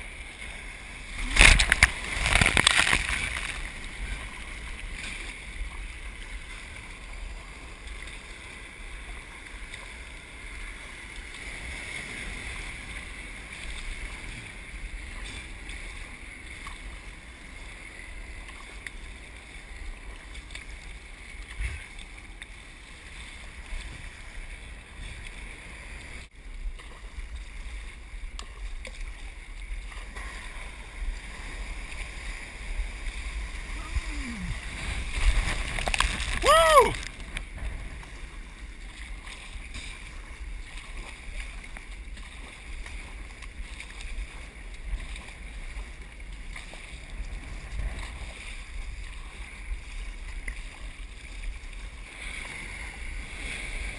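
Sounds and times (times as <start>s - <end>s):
wind rumbling on microphone: 0.0s - 53.9s.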